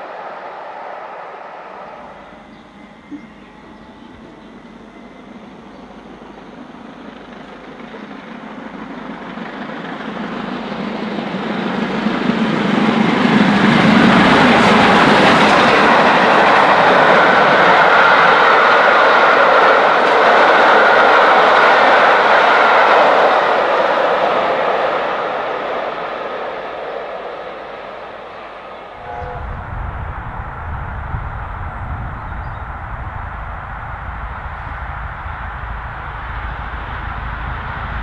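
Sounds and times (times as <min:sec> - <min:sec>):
coaches rushing past on rails: 0:00.0 - 0:38.0
steam locomotive passing: 0:00.0 - 0:38.0.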